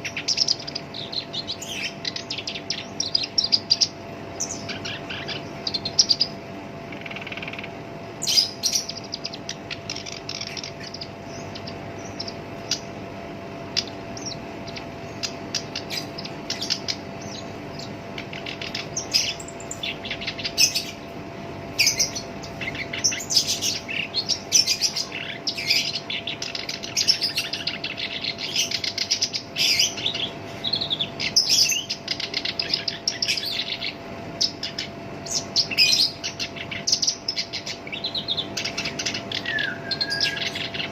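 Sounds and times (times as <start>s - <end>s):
warbler singing harsh chattering song: 0.0s - 40.9s.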